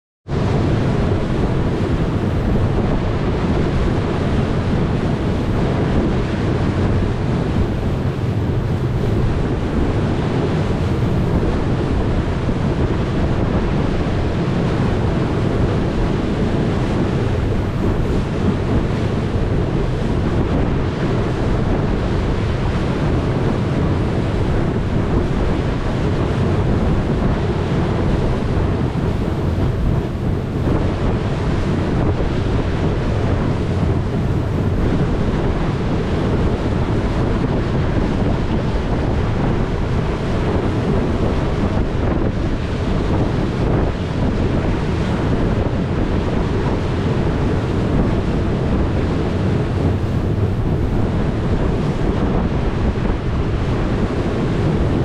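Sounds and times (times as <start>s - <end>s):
wind buffeting the microphone: 0.2s - 55.0s
water rushing past a boat: 0.3s - 55.0s.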